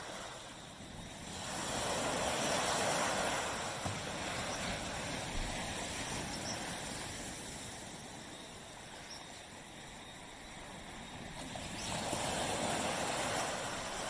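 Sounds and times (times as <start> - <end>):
small waves washing on beach: 0.0 - 14.0.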